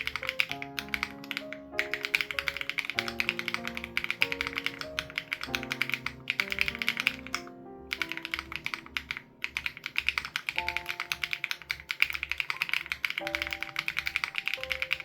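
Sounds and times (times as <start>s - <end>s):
mechanical keyboard typing: 0.0s - 15.0s.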